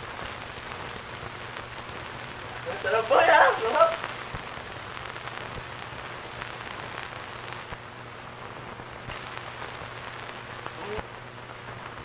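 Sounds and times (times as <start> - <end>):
crackles: 0.0 - 12.0
film soundtrack hiss: 0.0 - 12.0.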